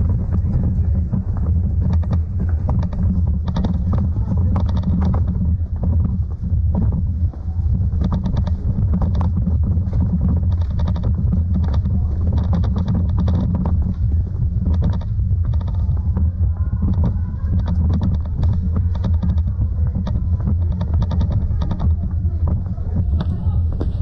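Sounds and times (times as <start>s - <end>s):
rattling clicks: 0.0s - 7.0s, 7.8s - 23.4s
low wind and road rumble: 0.0s - 24.0s.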